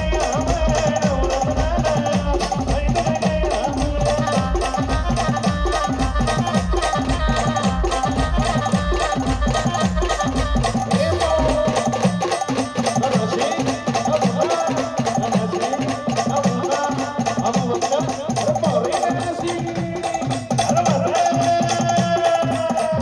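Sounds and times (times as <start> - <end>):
driving drum beat: 0.0 - 23.0.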